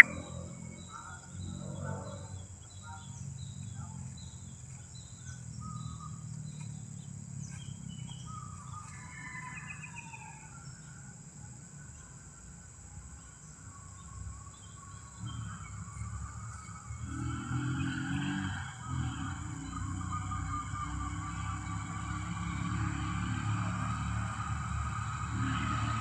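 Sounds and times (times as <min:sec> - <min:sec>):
small birds chirping: 0:00.0 - 0:22.6.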